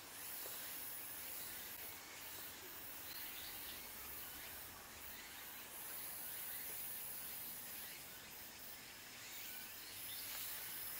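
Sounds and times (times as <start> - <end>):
high insect drone: 0.0 - 10.9.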